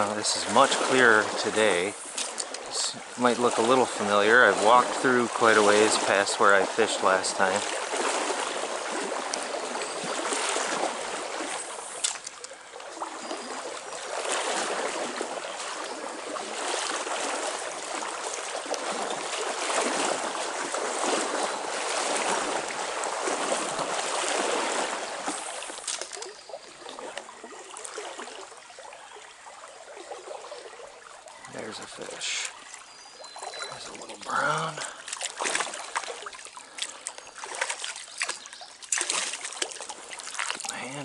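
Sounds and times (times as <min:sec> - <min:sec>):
stream water rushing and trickling: 0:00.0 - 0:41.0.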